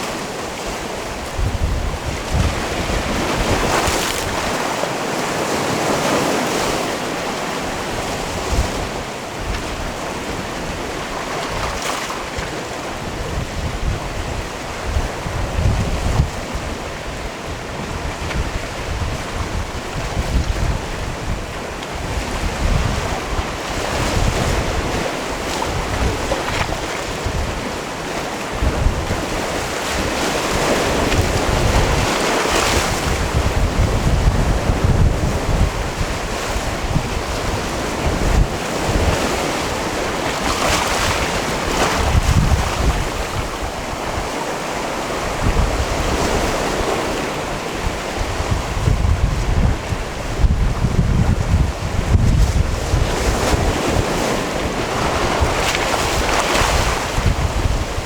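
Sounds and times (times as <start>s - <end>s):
waves washing onto stony shore: 0.0s - 58.0s
wind buffeting microphone: 0.0s - 58.0s.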